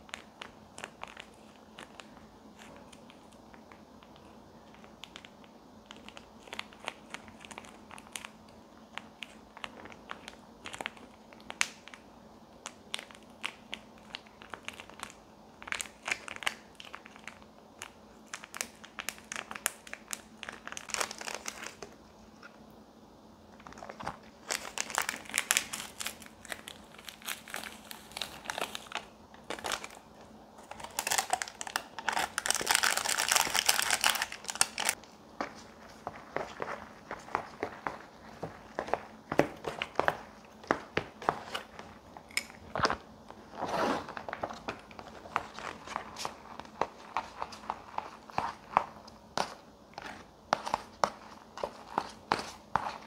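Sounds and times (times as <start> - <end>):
plastic sachet crinkling: 0.0 - 12.0, 12.6 - 22.0, 23.6 - 53.0.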